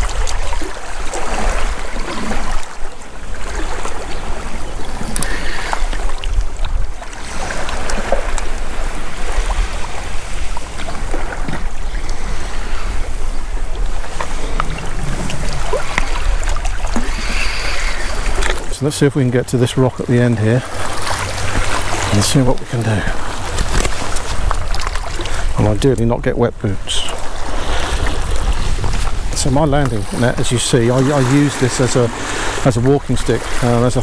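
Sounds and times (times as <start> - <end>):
small waves lapping on rocks: 0.0 - 34.0
wind buffeting microphone: 0.0 - 34.0.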